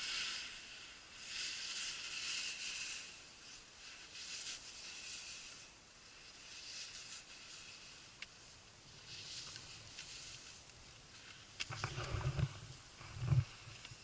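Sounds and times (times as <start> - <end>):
skis scraping on snow: 0.0 - 14.0.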